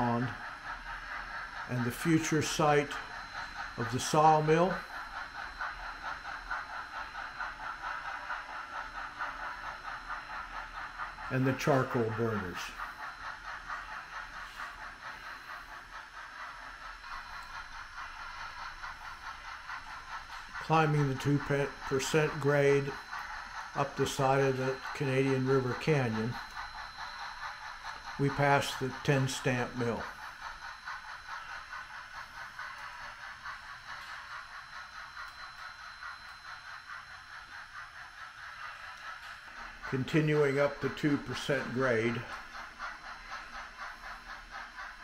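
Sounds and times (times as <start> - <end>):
model train rattling on track: 0.0 - 45.0.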